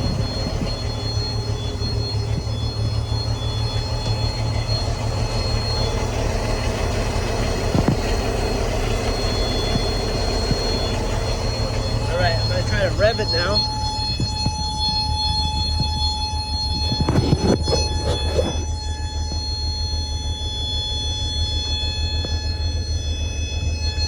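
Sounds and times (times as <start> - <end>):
boat motor running: 0.0 - 24.0
high steady buzzing tone: 0.0 - 24.0.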